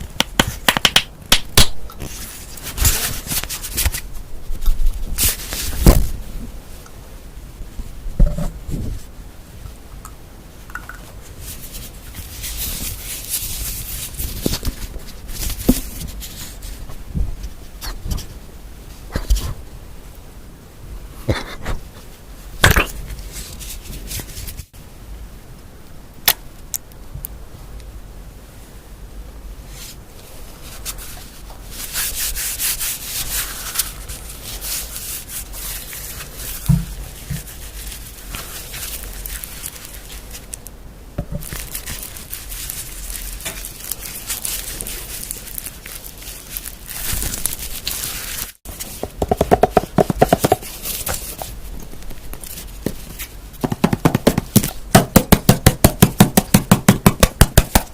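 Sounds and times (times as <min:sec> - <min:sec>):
rubbing and scratching objects: 0:00.0 - 0:06.8, 0:11.0 - 0:19.6, 0:21.2 - 0:24.8, 0:29.7 - 0:57.9.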